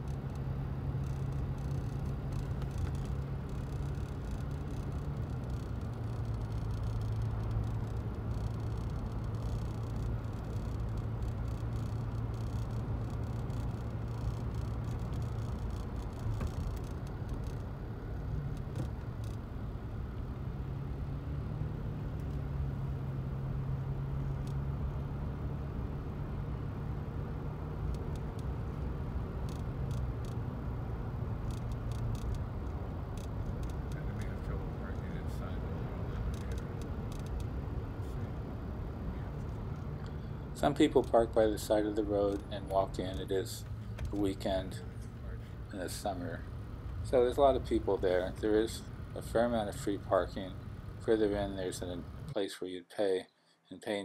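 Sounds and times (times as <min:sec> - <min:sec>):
car engine hum: 0:00.0 - 0:52.4
road noise: 0:00.0 - 0:54.0.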